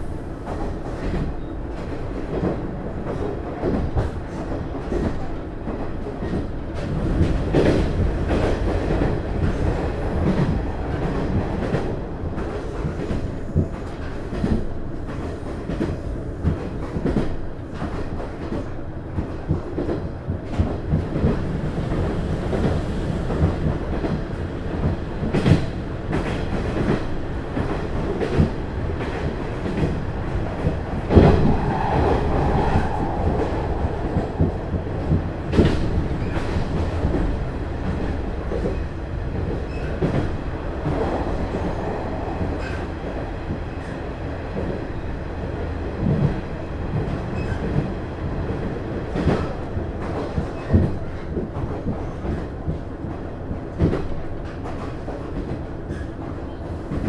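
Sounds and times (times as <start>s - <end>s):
railcar engine low rumble: 0.0s - 57.0s.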